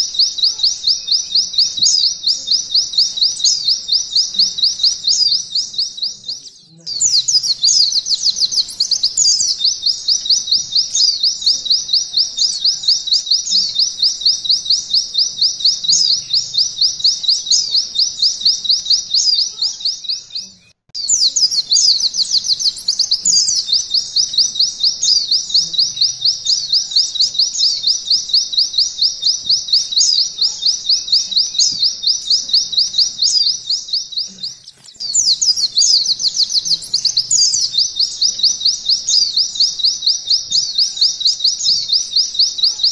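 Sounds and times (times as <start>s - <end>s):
bird singing high trill: 0.0s - 42.9s.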